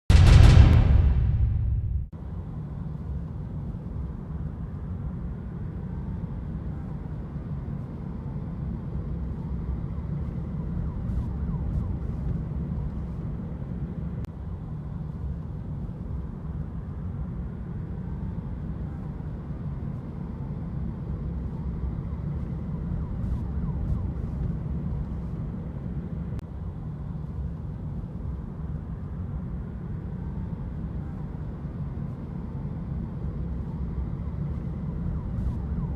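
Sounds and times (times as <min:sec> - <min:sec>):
low rumble of traffic: 0:00.1 - 0:35.9
faint emergency siren wailing: 0:02.3 - 0:35.9.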